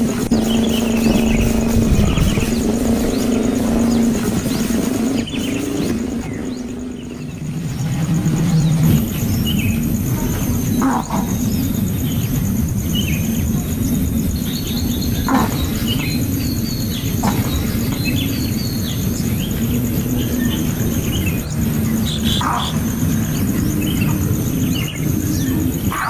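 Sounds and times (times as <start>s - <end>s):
high pulsing tone: 0.0s - 26.0s
steady low rumble: 0.0s - 26.0s.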